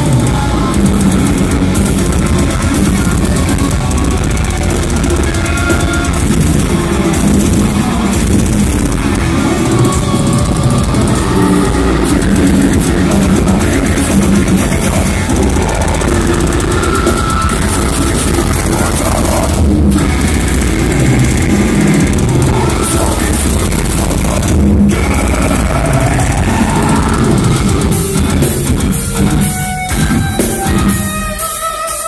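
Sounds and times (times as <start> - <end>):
death metal band playing live: 0.0 - 32.0.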